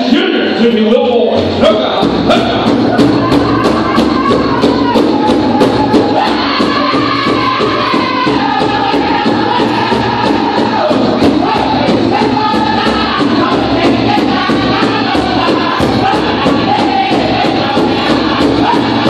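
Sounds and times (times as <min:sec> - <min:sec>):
drum group singing: 0:00.3 - 0:19.0
big drum steady beat: 0:01.2 - 0:19.0.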